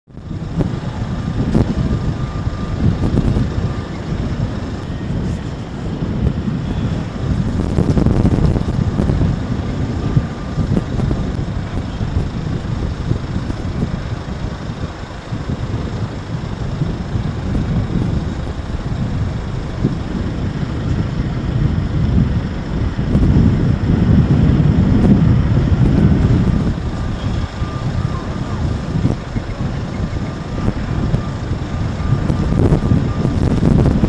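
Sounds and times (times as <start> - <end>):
loud low rumble: 0.1 - 34.0
wind buffeting microphone: 0.1 - 34.0.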